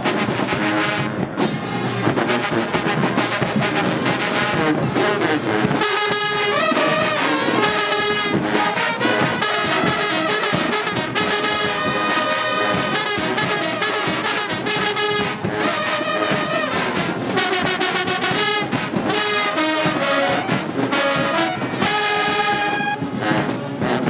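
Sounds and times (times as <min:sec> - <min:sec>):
marching band brass chords: 0:00.0 - 0:24.0
marching band percussion beat: 0:00.0 - 0:24.0.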